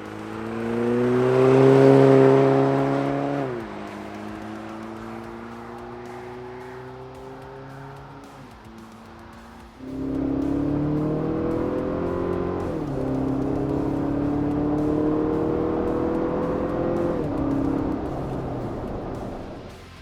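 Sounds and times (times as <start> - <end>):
car exhaust accelerating: 0.0 - 20.0.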